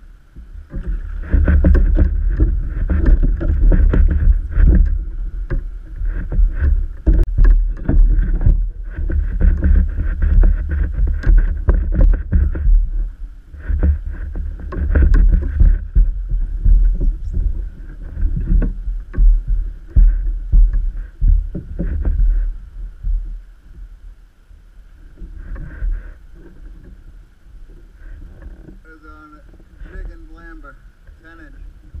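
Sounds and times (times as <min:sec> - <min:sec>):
faint steady hum: 0:00.0 - 0:32.0
water splashing against hull: 0:00.0 - 0:32.0
wind buffeting microphone: 0:00.0 - 0:32.0.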